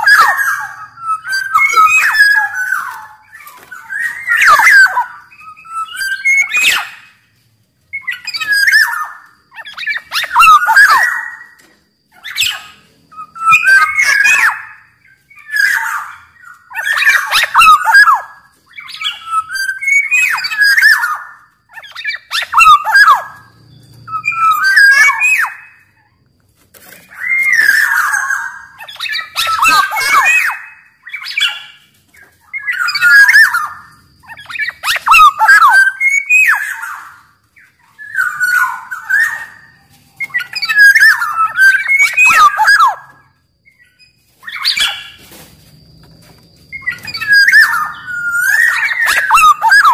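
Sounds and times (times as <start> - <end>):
bird singing fluting whistles: 0.0 - 7.2, 7.9 - 26.2, 27.0 - 45.3, 46.7 - 49.9.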